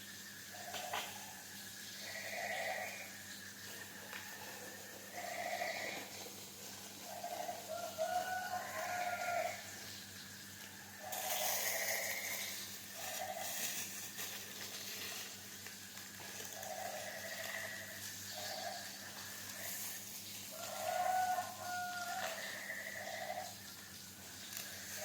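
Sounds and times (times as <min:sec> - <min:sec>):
hiss: 0:00.0 - 0:25.0
farm animal calls: 0:00.5 - 0:10.0, 0:10.8 - 0:14.0, 0:16.2 - 0:25.0.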